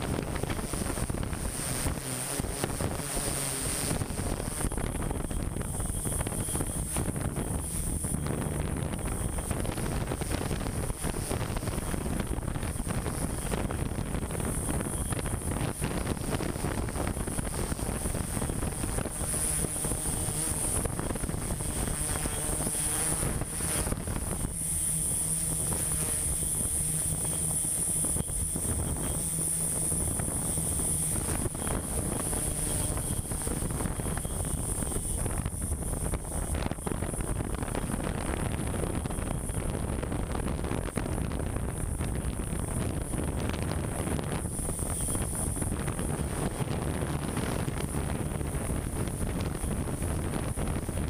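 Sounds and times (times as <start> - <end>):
drone propellers whining: 0.0 - 51.0.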